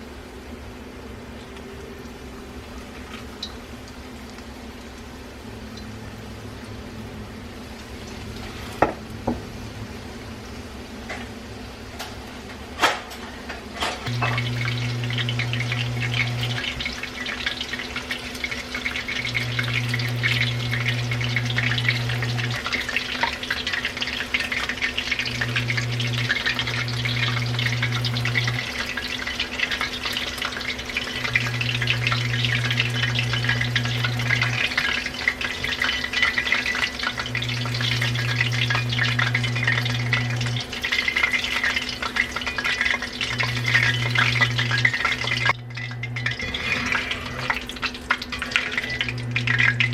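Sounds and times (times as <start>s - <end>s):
chicken deep-frying in oil: 0.0s - 49.9s.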